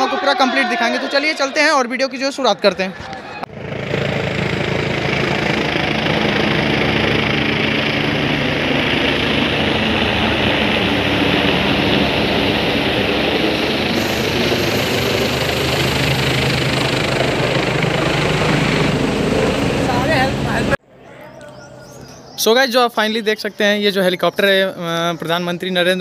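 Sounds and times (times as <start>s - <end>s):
helicopter flying overhead: 0.0s - 26.0s.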